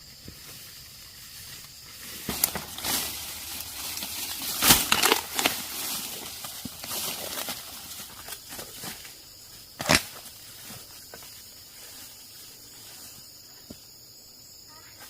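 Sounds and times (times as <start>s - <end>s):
rustling and crackling: 0.0s - 13.3s
insect chirr: 0.0s - 15.0s.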